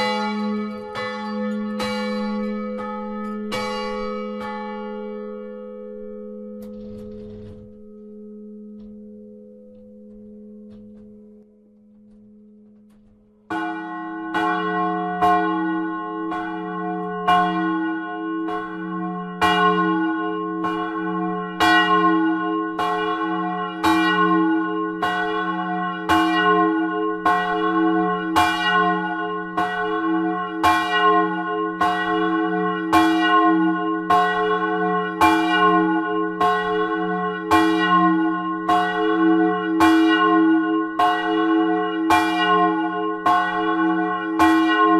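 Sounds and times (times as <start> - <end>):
large church bell ringing: 0.0 - 44.9.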